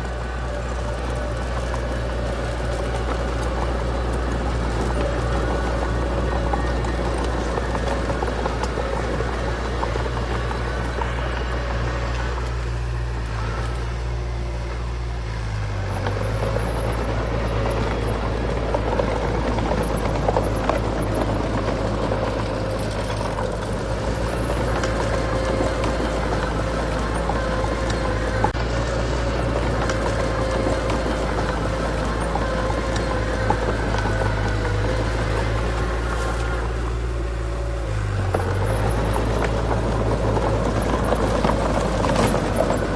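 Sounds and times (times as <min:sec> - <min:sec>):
heavy diesel machinery running: 0:00.0 - 0:42.9.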